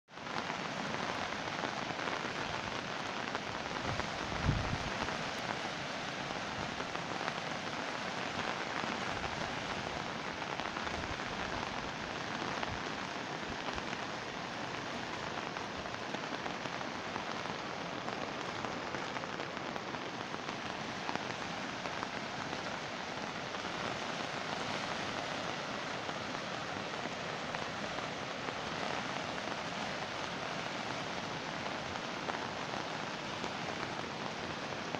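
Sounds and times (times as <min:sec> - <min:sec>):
river rushing: 0:00.1 - 0:34.9.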